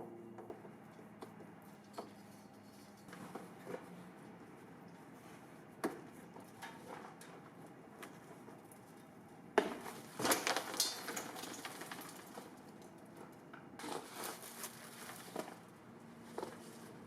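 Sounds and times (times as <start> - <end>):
clatter and rustling of handling: 0.4 - 17.0.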